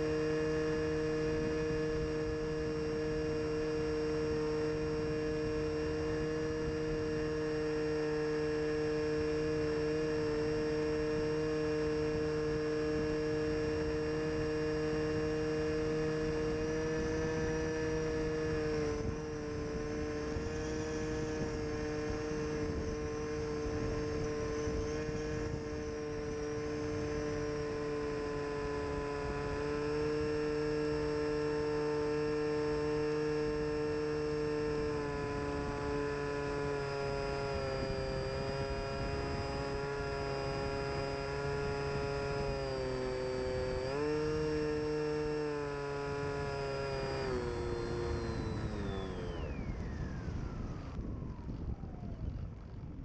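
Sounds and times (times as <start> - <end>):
model plane electric motor hum: 0.0 - 53.0.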